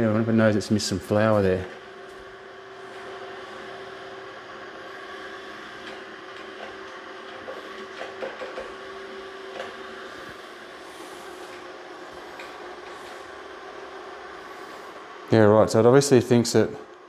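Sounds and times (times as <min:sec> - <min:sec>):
robot vacuum motor humming: 0:01.0 - 0:15.2.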